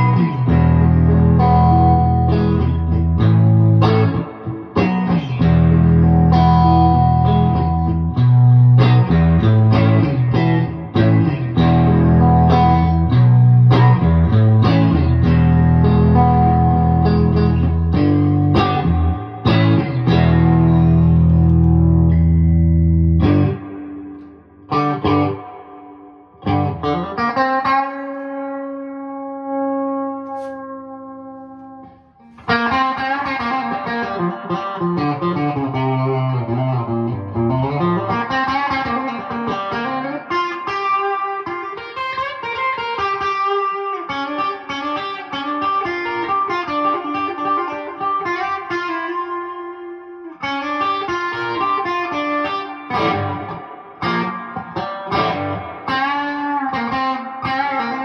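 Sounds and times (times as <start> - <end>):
electric guitar with spring reverb: 0.0 - 58.0.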